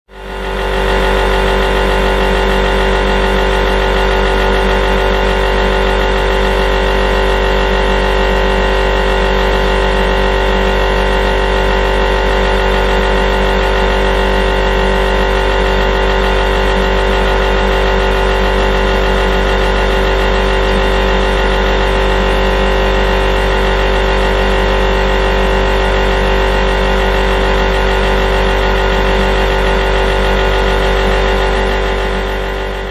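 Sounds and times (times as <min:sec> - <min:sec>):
refrigerator humming: 0:00.2 - 0:32.9.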